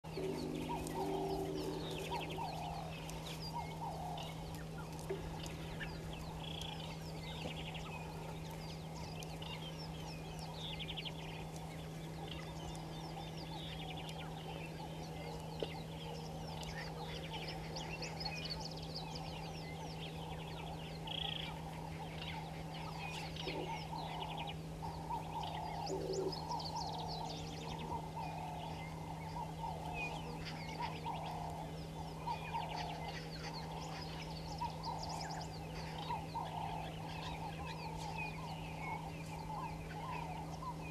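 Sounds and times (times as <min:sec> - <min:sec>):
birds chirping and calling: 0:00.0 - 0:40.9
low hum: 0:00.0 - 0:40.9.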